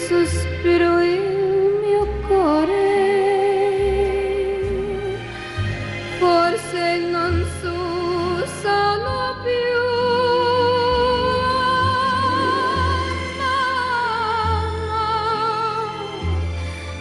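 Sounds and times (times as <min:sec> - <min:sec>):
woman singing pop ballad: 0:00.0 - 0:05.0, 0:06.2 - 0:16.3
orchestral backing: 0:00.0 - 0:17.0.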